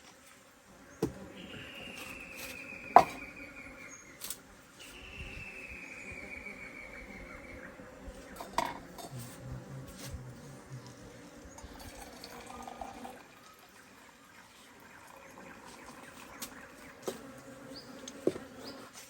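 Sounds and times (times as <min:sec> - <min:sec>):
flying insect buzzing: 0:00.0 - 0:12.6, 0:15.4 - 0:19.0.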